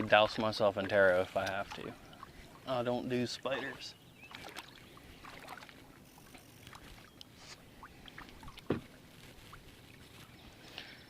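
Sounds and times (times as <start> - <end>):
paddle splashing water: 0.0 - 10.4.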